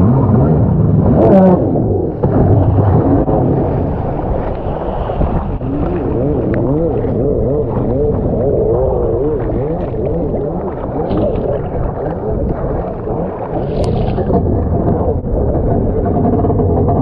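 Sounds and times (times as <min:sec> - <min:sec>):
jet ski engine revving: 0:00.0 - 0:17.0.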